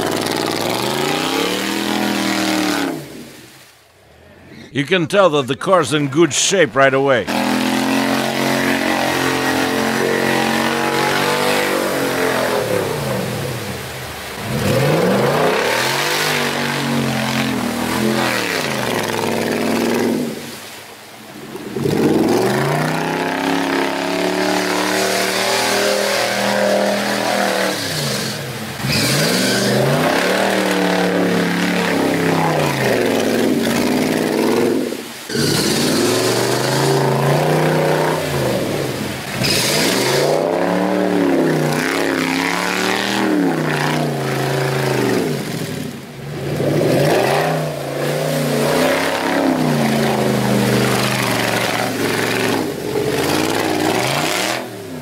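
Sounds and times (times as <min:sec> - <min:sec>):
engine revving hard: 0:00.0 - 0:03.2, 0:07.2 - 0:20.4, 0:21.7 - 0:55.0.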